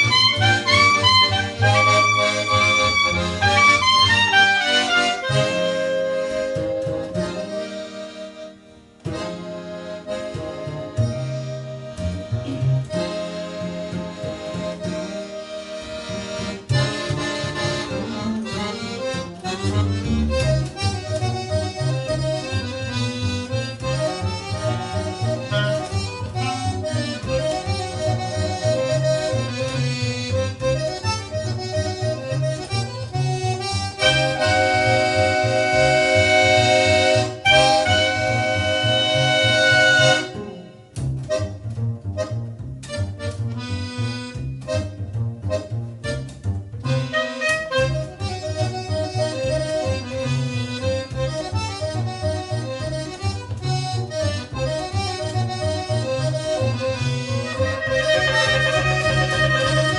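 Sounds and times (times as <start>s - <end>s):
accordion playing: 0.0s - 59.9s
plucked bass line: 0.0s - 59.9s.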